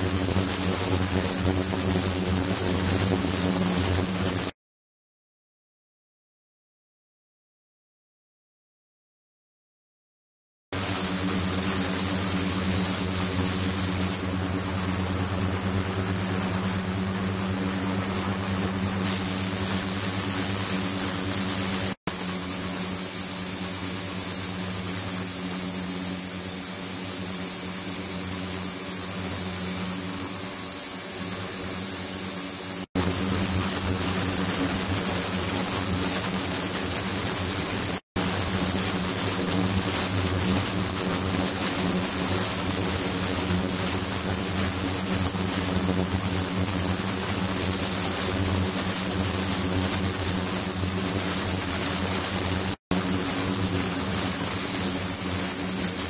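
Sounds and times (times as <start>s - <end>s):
ultrasonic apparatus humming: 0.0s - 4.5s, 10.8s - 56.0s.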